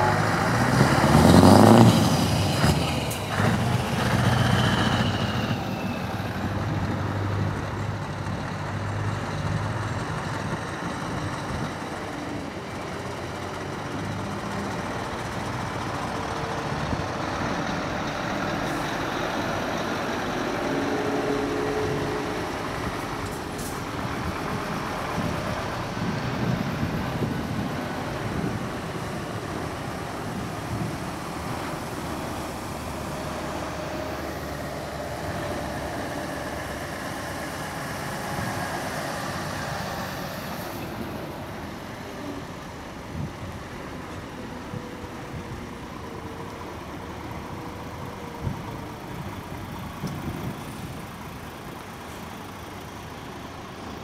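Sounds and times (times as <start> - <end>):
diesel trucks driving past: 0.0 - 54.0
traffic noise: 0.0 - 54.0.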